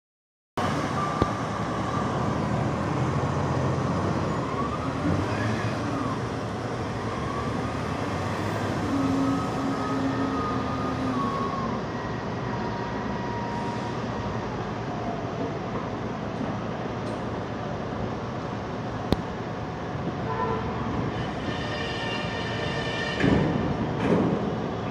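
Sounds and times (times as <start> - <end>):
heavy diesel engines running: 0.6 - 24.9.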